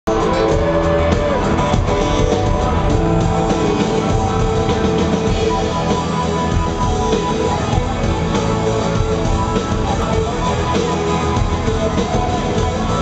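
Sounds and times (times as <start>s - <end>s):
live rock band with guitar: 0.1s - 13.0s.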